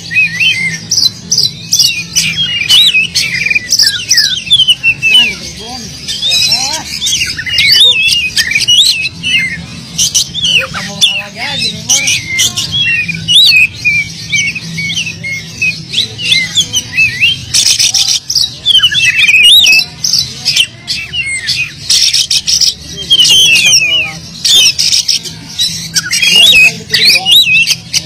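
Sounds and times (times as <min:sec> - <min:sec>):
bird singing whistled phrases: 0:00.0 - 0:28.0.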